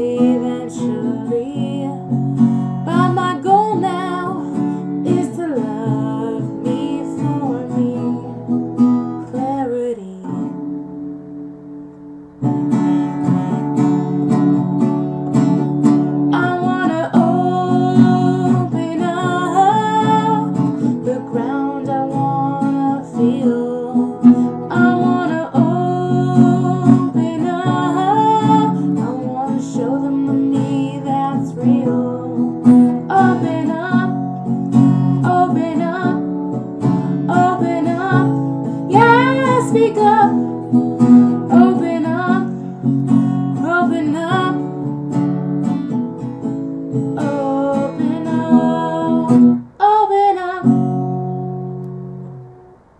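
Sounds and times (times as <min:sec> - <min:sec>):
strummed acoustic guitar: 0:00.0 - 0:52.9.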